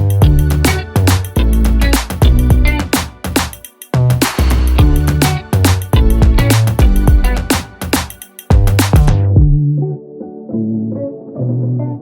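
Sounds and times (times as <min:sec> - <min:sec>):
upbeat music with drums and bass: 0:00.0 - 0:09.7.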